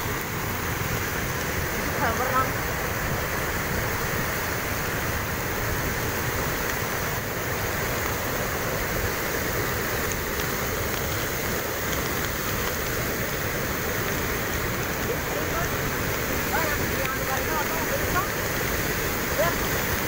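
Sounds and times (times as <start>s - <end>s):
floodwater rushing down river: 0.0s - 20.0s.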